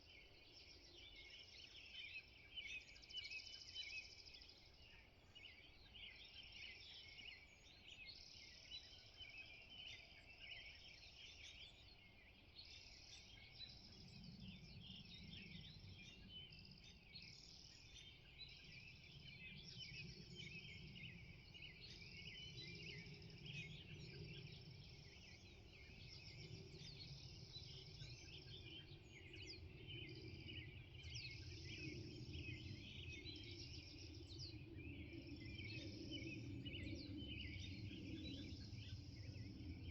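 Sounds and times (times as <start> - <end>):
birds chirping and trilling: 0.1 - 39.9.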